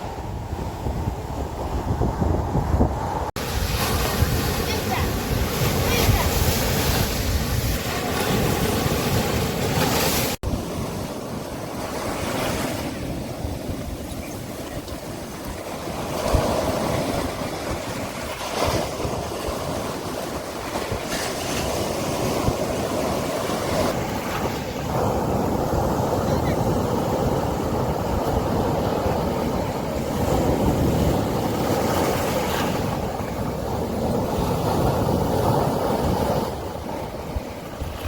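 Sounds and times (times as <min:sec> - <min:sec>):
wind buffeting microphone: 0:00.0 - 0:38.0
sea waves washing onto beach: 0:03.1 - 0:38.0.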